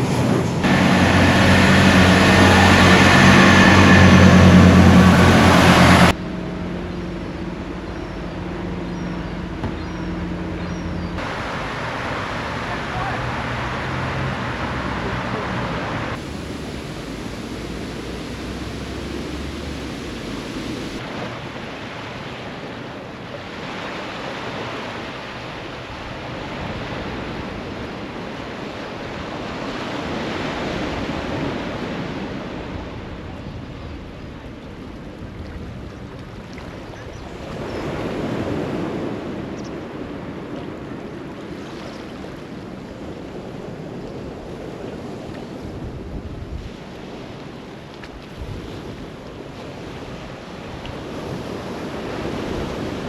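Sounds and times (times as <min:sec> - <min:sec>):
sea waves washing onto beach: 0:00.0 - 0:06.2, 0:11.2 - 0:53.0
wind rumbling on microphone: 0:00.0 - 0:53.0.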